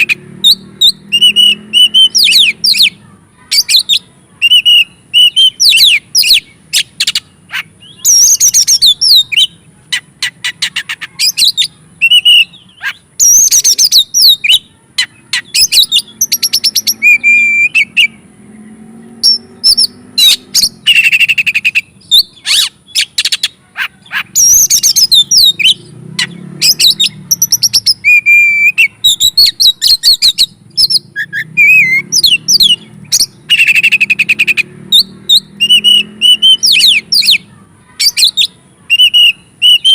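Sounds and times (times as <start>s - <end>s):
bird singing whistled notes: 0.0s - 3.0s, 3.6s - 18.3s, 19.2s - 23.5s, 24.3s - 37.4s, 38.0s - 39.9s.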